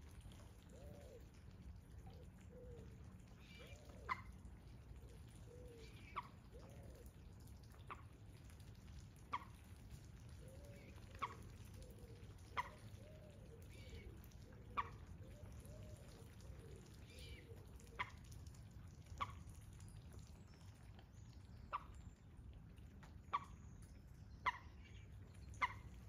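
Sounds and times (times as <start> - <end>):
low steady rumble: 0.0 - 26.0
water drops plinking into pond: 0.0 - 26.0.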